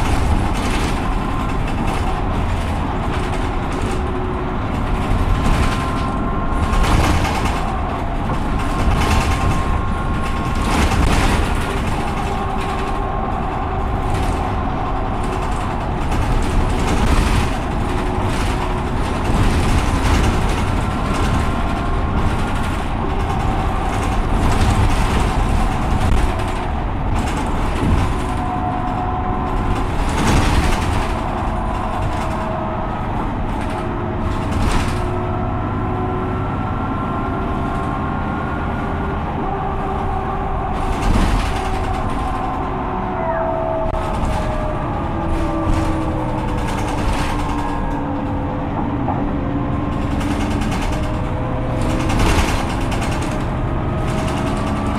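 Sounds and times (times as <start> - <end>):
bus engine droning: 0.0 - 54.9.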